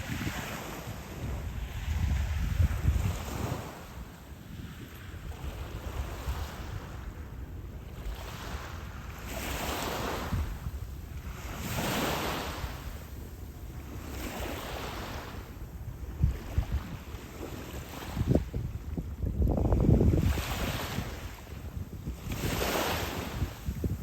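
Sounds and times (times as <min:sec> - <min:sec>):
small waves washing ashore: 0:00.0 - 0:24.0
wind rumbling on microphone: 0:00.0 - 0:24.0.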